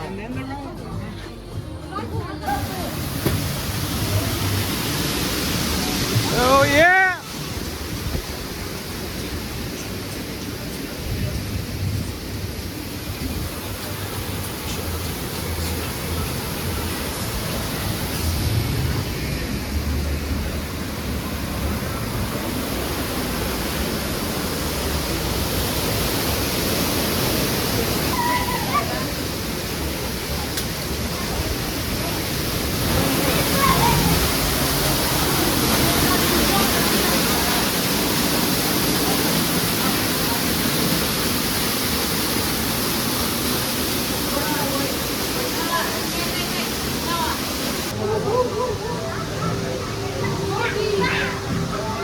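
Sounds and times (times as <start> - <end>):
faint voices: 0.0 - 52.0
falling water rushing: 1.9 - 52.0.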